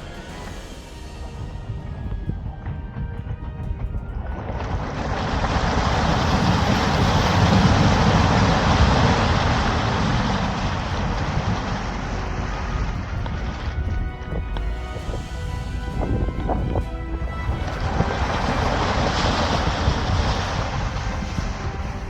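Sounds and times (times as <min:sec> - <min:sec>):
vehicle driving through snow: 0:04.2 - 0:22.0.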